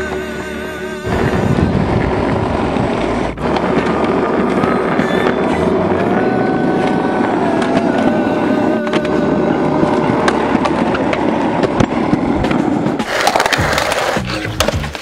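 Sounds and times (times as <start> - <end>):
skateboard wheels rolling on concrete: 0.0 - 15.0
skateboard grinding on concrete ledge: 1.0 - 15.0
skateboard clicks and slaps: 2.0 - 15.0.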